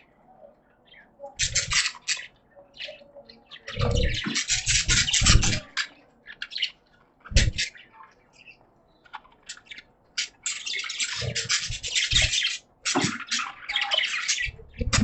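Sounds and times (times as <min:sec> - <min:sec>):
budgies chirping and chattering: 0:00.0 - 0:15.0.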